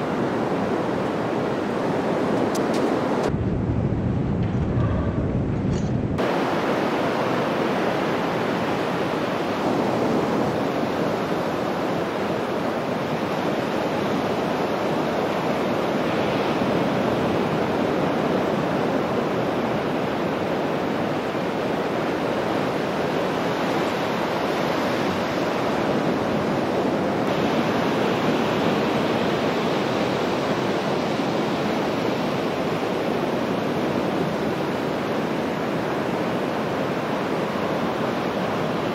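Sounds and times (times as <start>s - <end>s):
surf breaking on a beach: 6.2s - 38.9s.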